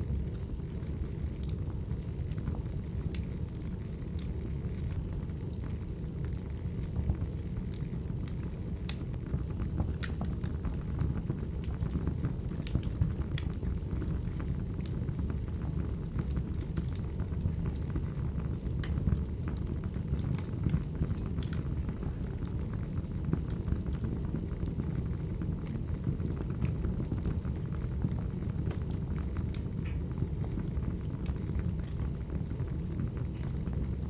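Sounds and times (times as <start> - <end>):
firewood crackles and pops: 0.0 - 34.0
low rumble of fire: 0.0 - 34.0.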